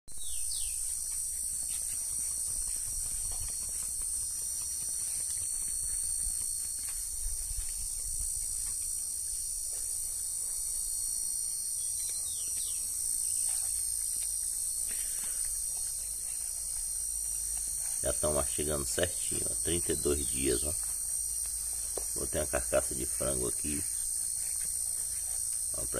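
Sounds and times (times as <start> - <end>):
insect chorus: 0.1 - 25.9.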